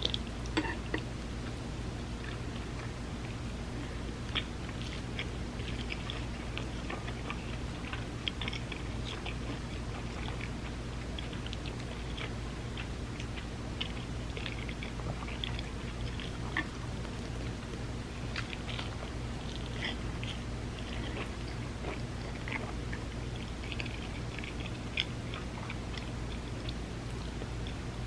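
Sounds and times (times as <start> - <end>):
person chewing with mouth clicks: 0.0 - 28.0
steady low hum: 0.0 - 28.0.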